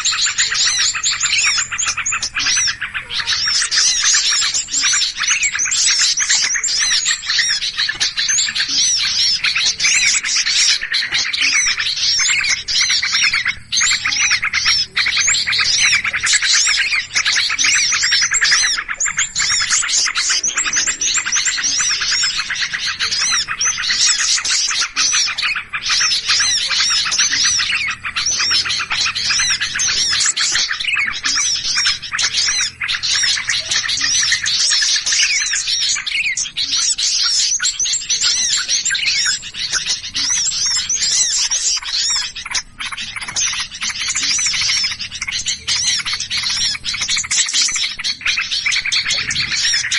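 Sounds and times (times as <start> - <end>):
songbirds chattering and chirping: 0.0 - 49.9.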